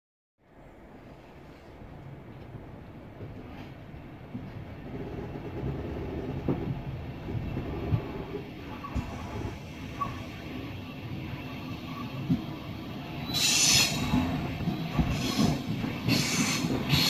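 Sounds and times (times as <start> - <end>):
train wheel rumble: 0.5 - 17.0.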